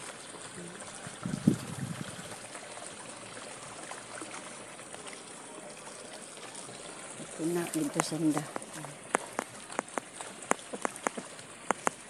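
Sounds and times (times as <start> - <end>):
low water burst: 0.0 - 12.0
rushing trickling water: 0.0 - 12.0.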